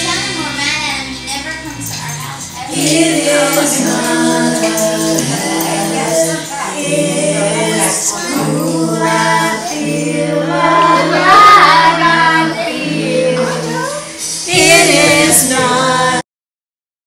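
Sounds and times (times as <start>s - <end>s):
music with singing voices: 0.0s - 16.2s.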